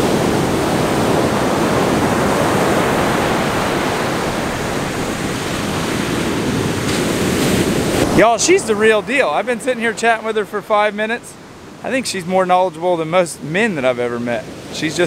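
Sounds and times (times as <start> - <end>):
surf waves breaking: 0.0 - 15.0.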